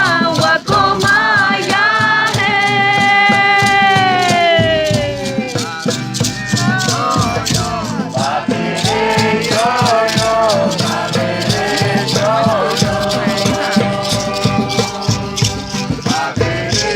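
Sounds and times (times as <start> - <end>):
shaker rattling a beat: 0.0 - 16.9
voices singing: 0.0 - 16.9.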